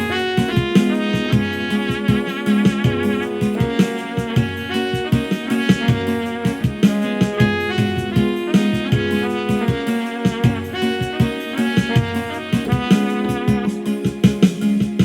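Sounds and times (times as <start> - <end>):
trumpet melody: 0.0 - 14.7
percussion beat: 0.0 - 15.0.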